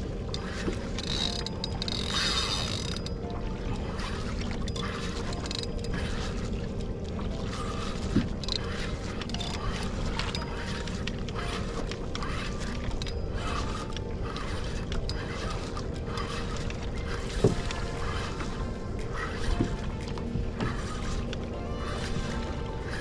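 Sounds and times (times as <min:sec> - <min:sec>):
water sloshing against kayak hull: 0:00.0 - 0:23.0.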